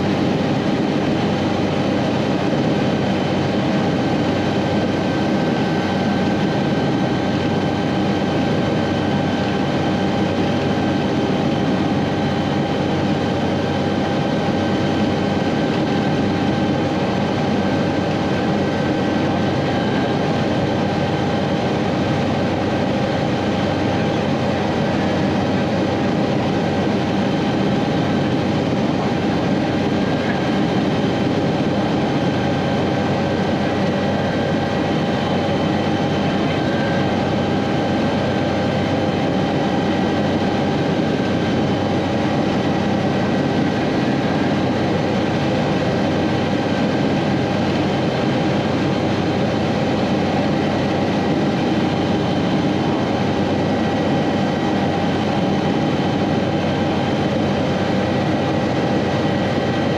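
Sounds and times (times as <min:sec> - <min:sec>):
helicopter turbine and rotor drone: 0:00.0 - 0:59.9
whining turbine tones: 0:00.0 - 0:59.9.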